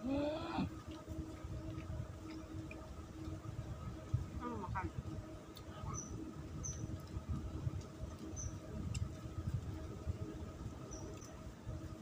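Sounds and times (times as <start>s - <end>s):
faint hum: 0.0s - 12.0s
wind rumble on microphone: 0.0s - 12.0s.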